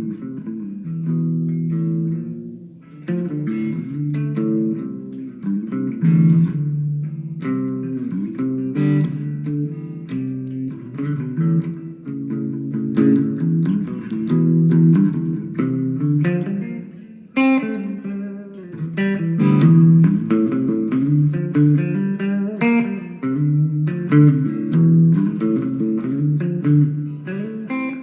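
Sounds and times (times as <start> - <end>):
guitar plucked notes: 0.0 - 28.0.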